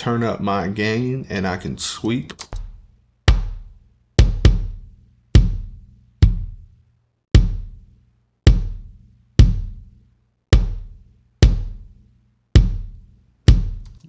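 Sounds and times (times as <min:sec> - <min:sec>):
kick drum hits: 0:02.6 - 0:14.0.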